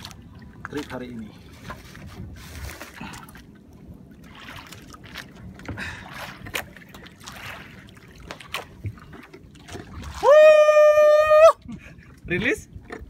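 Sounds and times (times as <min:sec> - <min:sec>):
water lapping at hull: 0:00.0 - 0:13.0.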